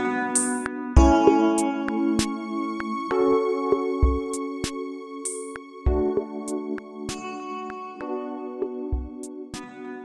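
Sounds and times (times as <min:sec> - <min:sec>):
light percussive beat: 0:00.0 - 0:07.4, 0:08.6 - 0:09.7.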